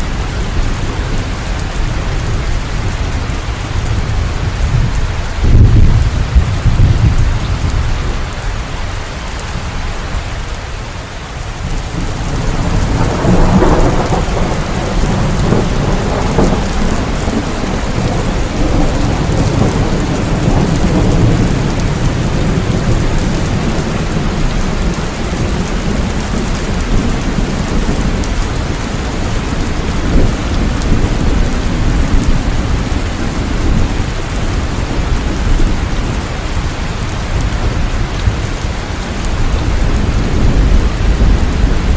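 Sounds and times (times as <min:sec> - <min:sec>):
thunder rumbling: 0:00.0 - 0:10.2, 0:11.5 - 0:41.9
steady rain: 0:00.0 - 0:41.9.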